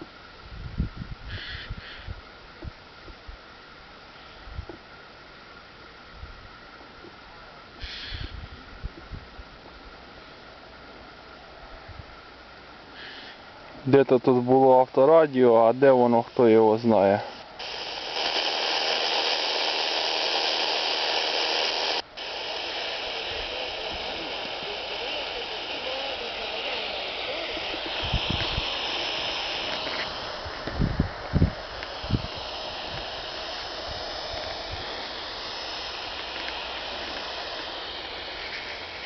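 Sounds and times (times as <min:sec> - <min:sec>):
radio static hiss: 0:00.0 - 0:00.2, 0:01.3 - 0:06.0, 0:06.7 - 0:08.9, 0:12.8 - 0:39.0.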